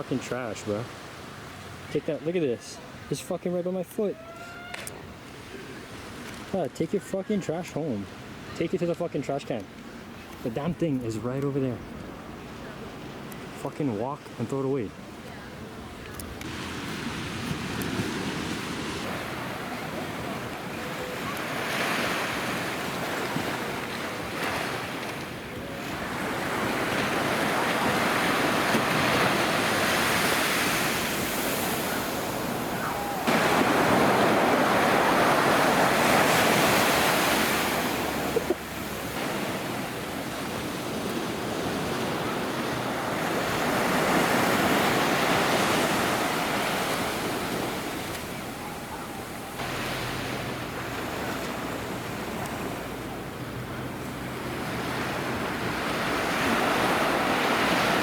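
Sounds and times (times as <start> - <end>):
ocean surf washing onto shore: 9.6 - 58.0.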